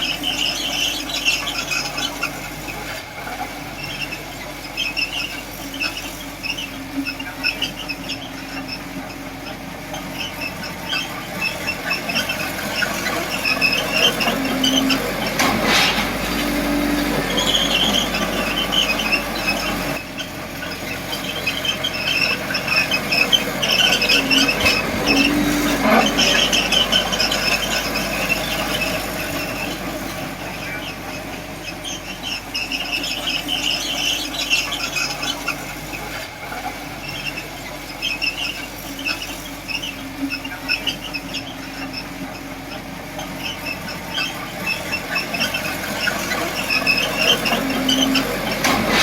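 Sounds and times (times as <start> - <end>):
bulldozer engine running: 0.0 - 49.0
steel tracks squealing: 0.0 - 49.0.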